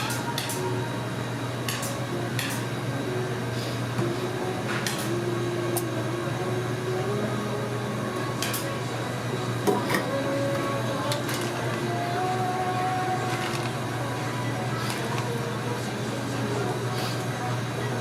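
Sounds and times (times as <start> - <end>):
appliance hum: 0.0 - 18.0.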